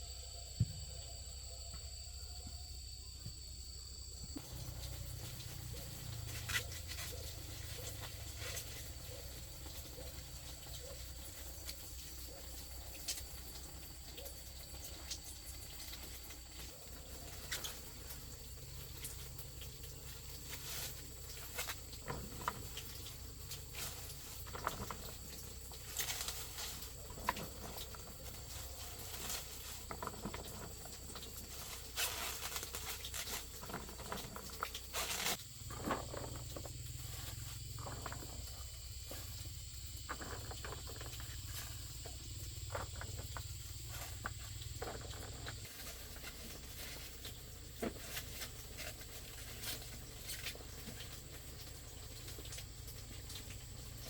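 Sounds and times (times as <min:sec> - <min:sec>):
insect drone: 0:00.0 - 0:54.0.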